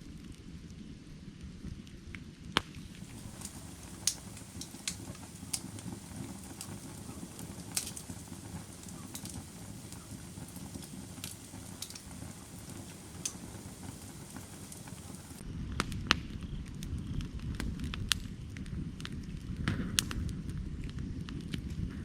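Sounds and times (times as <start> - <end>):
low rumble of flame: 0.0 - 22.0
firewood popping and crackling: 1.8 - 22.0.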